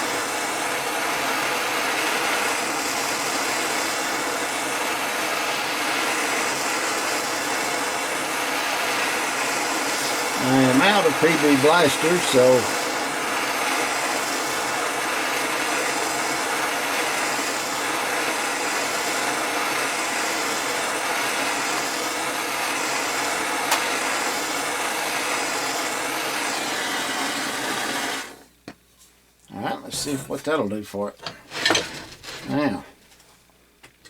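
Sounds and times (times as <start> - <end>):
heating torch hissing: 0.0 - 28.5.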